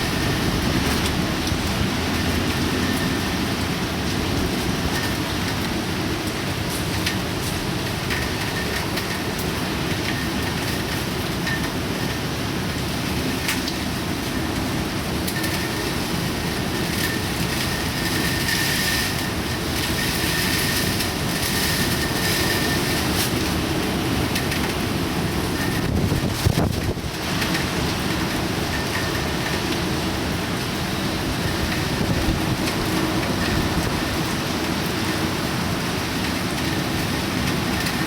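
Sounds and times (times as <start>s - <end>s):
heavy rain: 0.0s - 38.0s
wind: 0.0s - 38.0s.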